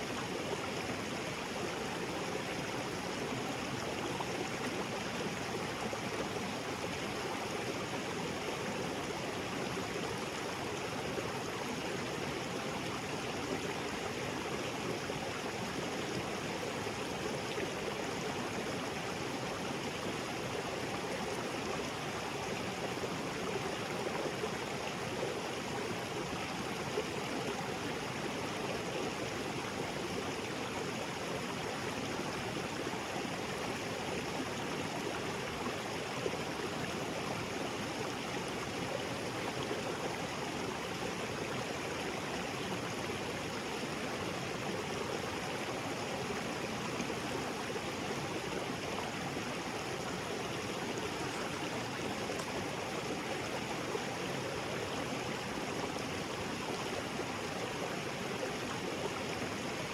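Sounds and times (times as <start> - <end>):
water gurgling: 0.0 - 59.9.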